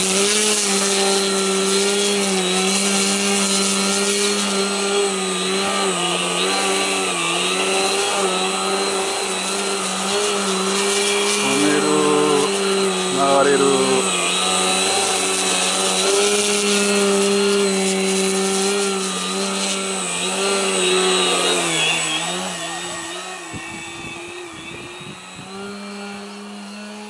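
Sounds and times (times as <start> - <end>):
model plane electric motor: 0.0 - 27.0.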